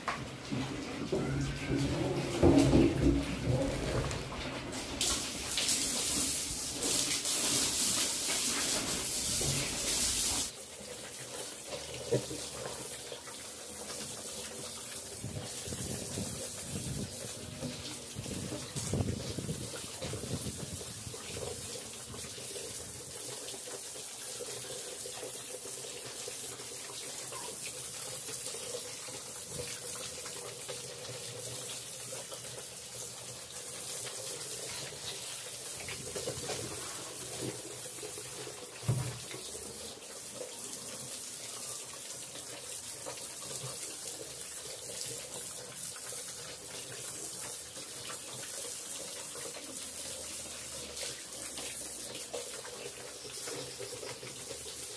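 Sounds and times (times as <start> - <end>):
hose spraying water: 0.0 - 54.9.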